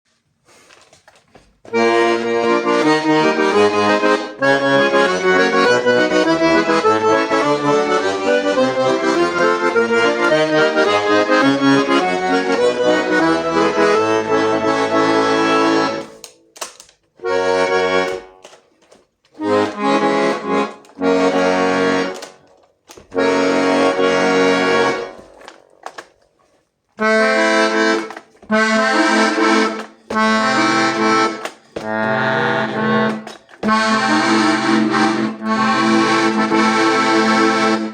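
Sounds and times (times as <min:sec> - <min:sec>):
accordion playing: 0:01.6 - 0:37.9.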